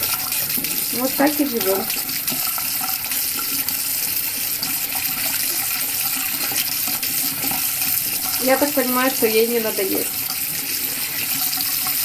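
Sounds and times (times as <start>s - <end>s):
tap water splashing into basin: 0.0s - 12.0s.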